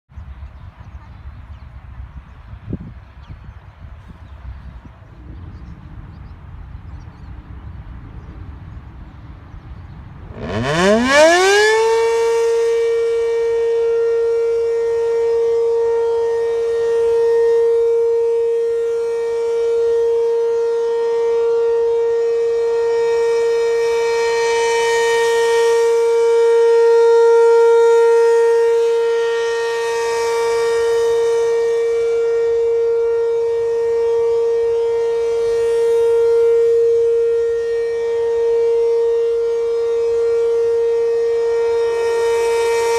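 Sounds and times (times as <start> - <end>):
civil defense siren: 0.2 - 42.9.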